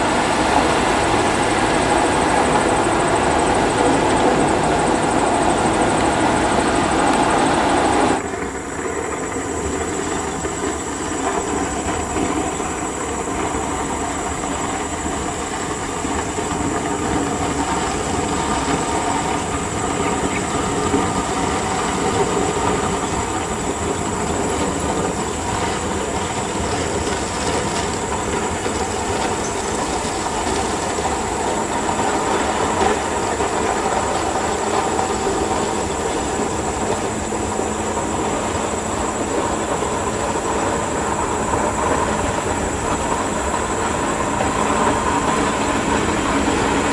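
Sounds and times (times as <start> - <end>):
heavy truck engine and running gear: 0.0 - 46.9.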